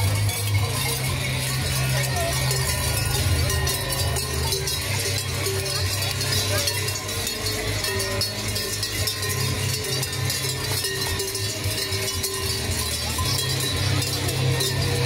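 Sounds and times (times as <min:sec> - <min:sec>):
large bells clanging: 0:00.0 - 0:15.0.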